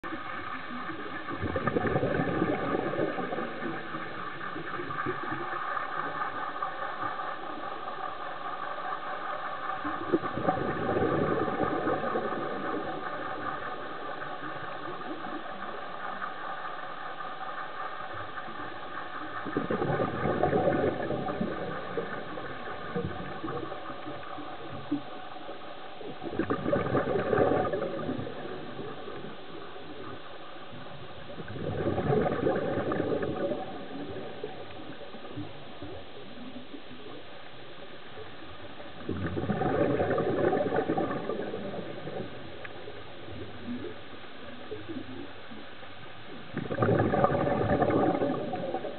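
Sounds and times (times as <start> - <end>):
diver's exhaled bubbles underwater: 0.0 - 37.4, 38.8 - 45.6, 46.3 - 48.9
steady underwater hum: 0.0 - 48.9.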